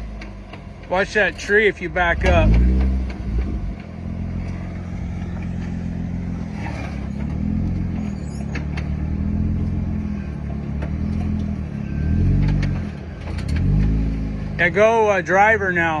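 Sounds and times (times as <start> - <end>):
vehicle engine at low revs: 0.0 - 16.0.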